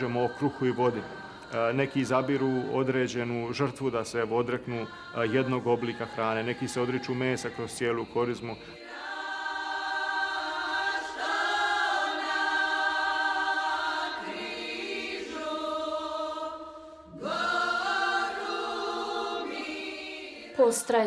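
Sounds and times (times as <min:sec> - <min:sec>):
choir singing a slow chant: 0:00.0 - 0:21.0.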